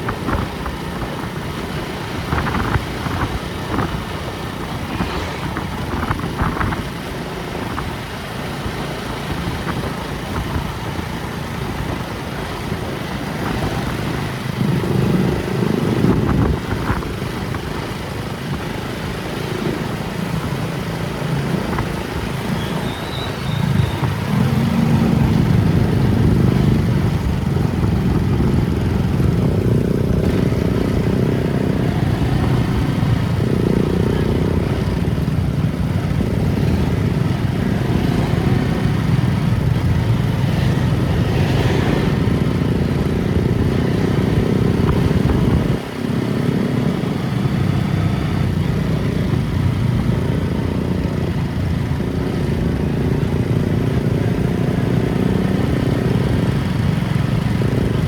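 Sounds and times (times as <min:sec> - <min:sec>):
road rumble: 0:00.0 - 0:58.0
vehicle engine: 0:00.0 - 0:58.0.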